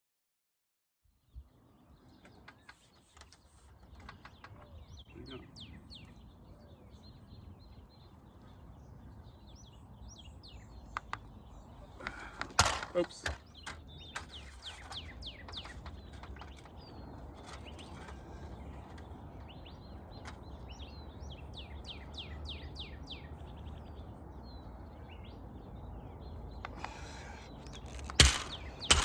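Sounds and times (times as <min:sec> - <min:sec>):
bird chirping: 0:01.2 - 0:29.0.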